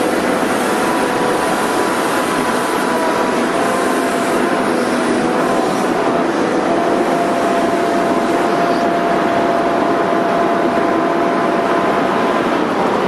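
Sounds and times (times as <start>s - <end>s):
excavator engine whine: 0.0s - 13.0s.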